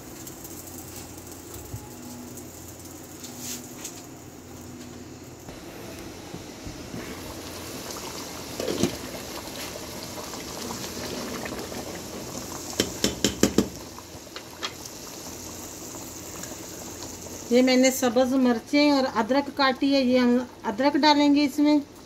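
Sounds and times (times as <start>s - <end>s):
pot boiling hard: 0.0s - 4.6s, 5.3s - 22.0s.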